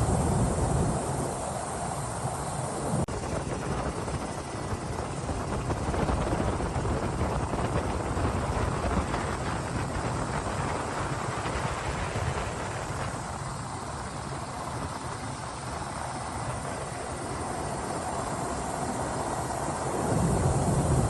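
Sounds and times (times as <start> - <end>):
helicopter rotor rumble: 0.0 - 21.0.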